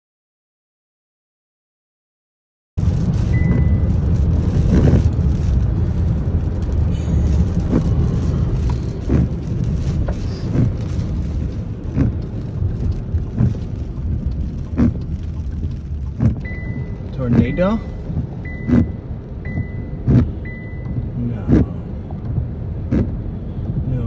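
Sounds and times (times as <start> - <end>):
road noise: 2.8 - 24.0
wind buffeting car: 2.8 - 24.0
windshield wipers sweeping: 2.8 - 24.0.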